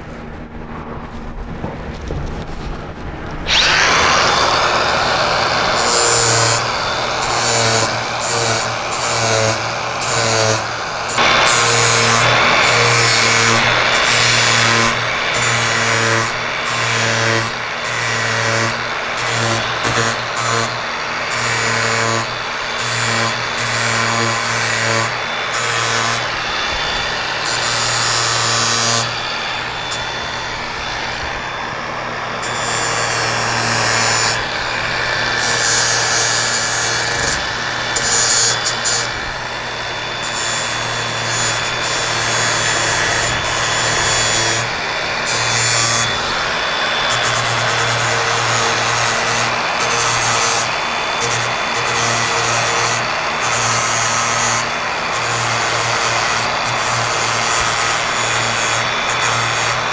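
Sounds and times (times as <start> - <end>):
angle grinder grinding fiberglass: 0.0 - 59.9.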